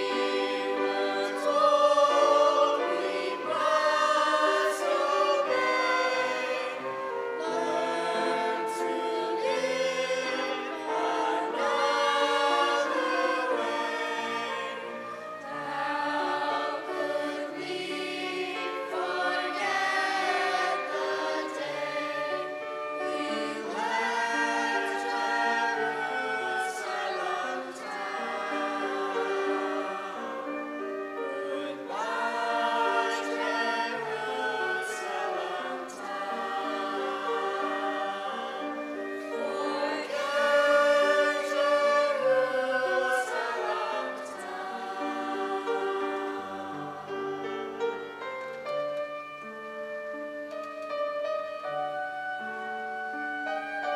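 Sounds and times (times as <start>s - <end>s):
choir singing sustained notes: 0.0s - 53.9s.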